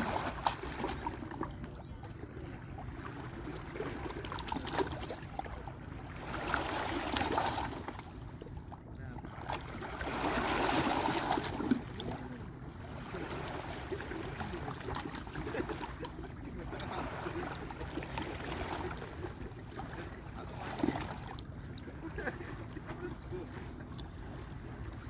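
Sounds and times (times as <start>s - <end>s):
paddle strokes in water: 0.0s - 25.0s.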